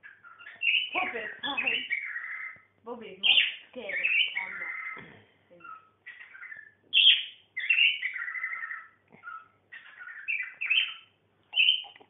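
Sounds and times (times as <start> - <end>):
parrots chirping and warbling: 0.0 - 12.0.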